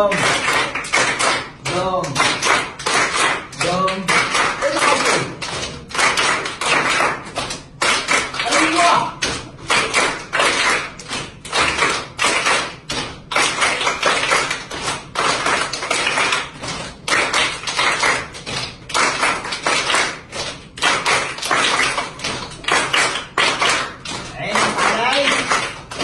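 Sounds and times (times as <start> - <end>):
children clapping in rhythm: 0.0 - 26.0.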